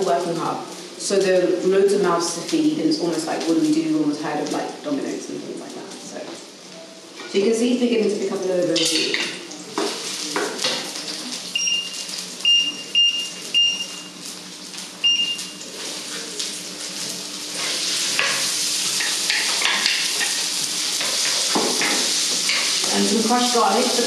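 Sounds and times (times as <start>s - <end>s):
oil sizzling in a wok: 0.0s - 7.3s, 8.2s - 24.0s.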